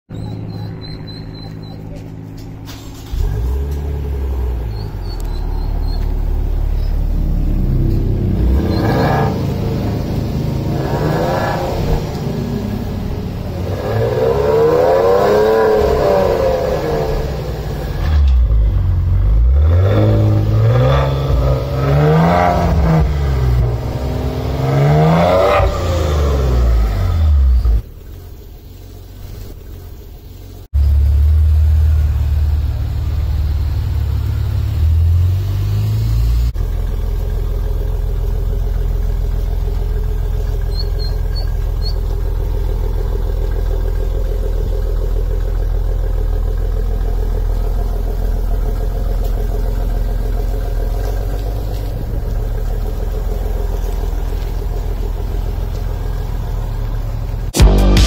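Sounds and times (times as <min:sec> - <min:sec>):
car engine idling: 0:00.1 - 0:58.0
car engine revving: 0:00.5 - 0:28.1, 0:28.7 - 0:58.0.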